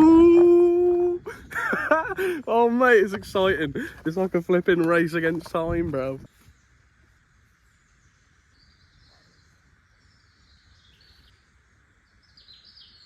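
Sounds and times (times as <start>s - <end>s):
faint birdsong chirping: 0.0s - 13.0s
low steady hiss: 0.0s - 13.0s.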